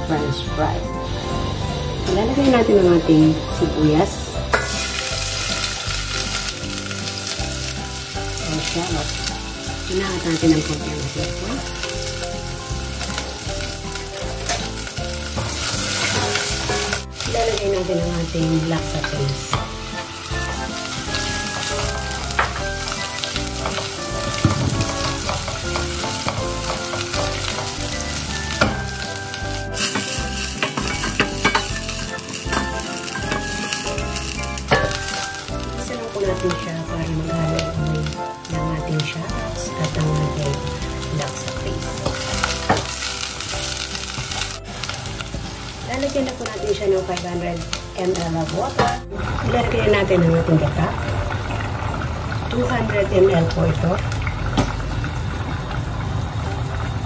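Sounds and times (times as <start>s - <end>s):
shallots sizzling in hot oil: 0.0s - 57.0s.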